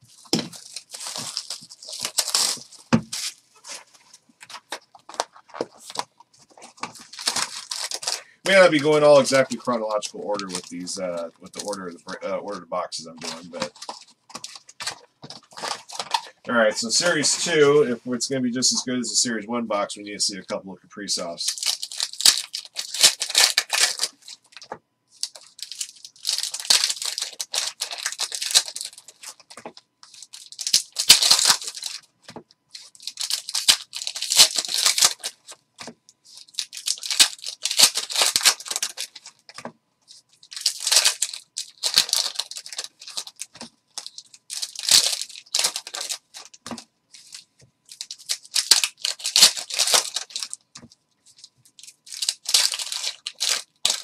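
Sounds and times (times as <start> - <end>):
foil wrappers tearing and crinkling: 0.1 - 17.6, 21.2 - 32.1, 32.7 - 54.0.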